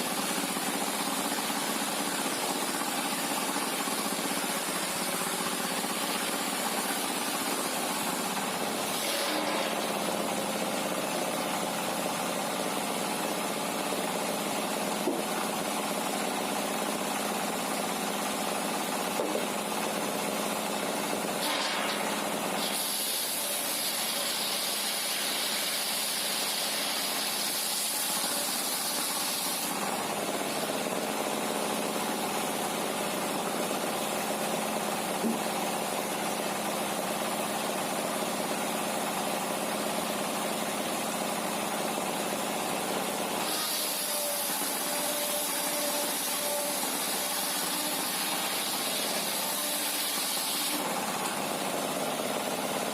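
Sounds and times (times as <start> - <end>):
sawmill machinery drone: 0.0 - 52.9.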